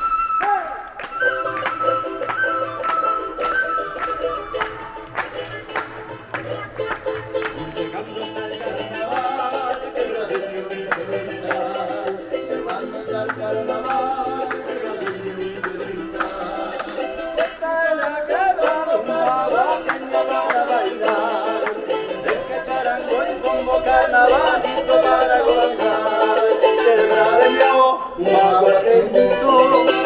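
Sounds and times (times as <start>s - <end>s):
folk music with strummed charango: 0.0s - 30.0s.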